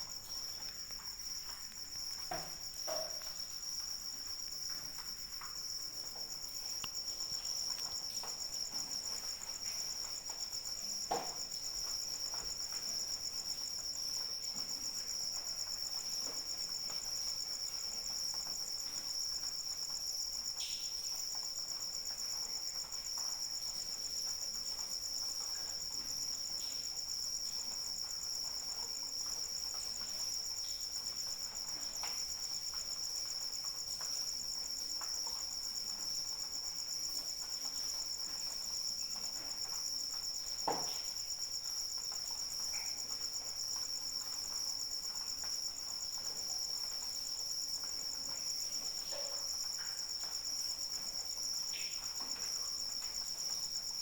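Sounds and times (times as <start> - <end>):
crickets chirping: 0.0 - 54.0
water drips and ticks: 0.0 - 54.0.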